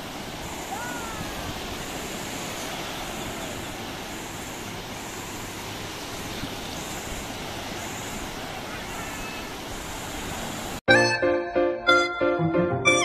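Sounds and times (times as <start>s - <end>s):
sea surf breaking: 0.0s - 11.0s.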